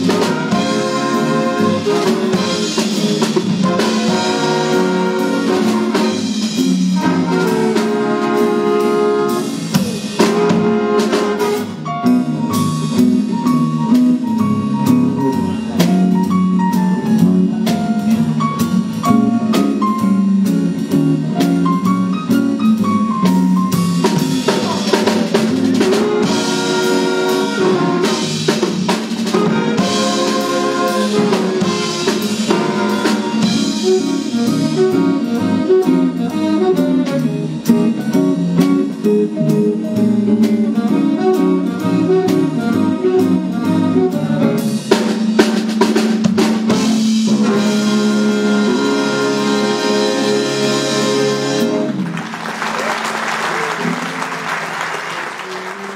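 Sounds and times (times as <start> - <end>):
big band playing swing jazz: 0.0 - 55.9.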